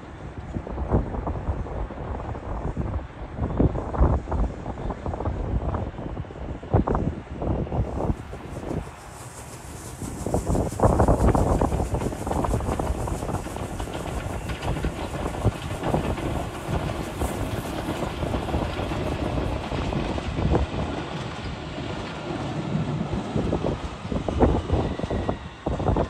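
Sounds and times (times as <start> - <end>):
rail machine rumbling: 0.1 - 26.0.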